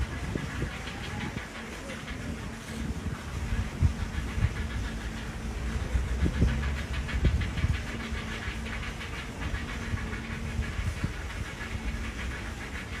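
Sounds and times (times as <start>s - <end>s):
steady low hum: 0.0s - 13.0s
wind buffeting microphone: 0.0s - 13.0s.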